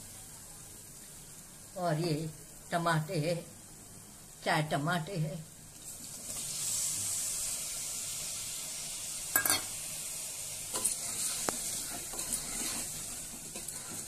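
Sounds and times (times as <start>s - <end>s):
oil sizzling in a pot: 0.0s - 14.0s.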